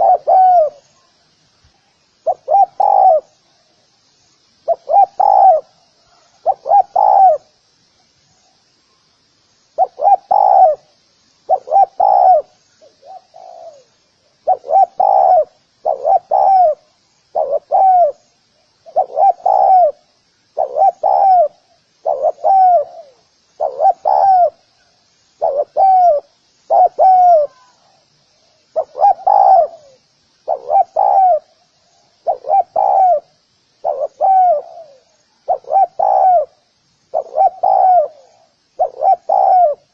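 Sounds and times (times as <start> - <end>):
dove cooing: 0.0 - 0.8, 2.2 - 3.4, 4.6 - 7.5, 9.8 - 10.9, 11.5 - 24.8, 25.4 - 28.0, 28.7 - 31.6, 32.2 - 39.9
faint high chirping: 0.0 - 39.9.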